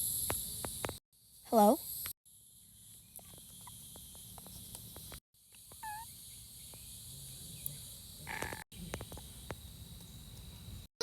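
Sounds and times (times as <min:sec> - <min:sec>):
insects chirring: 0:00.0 - 0:10.9.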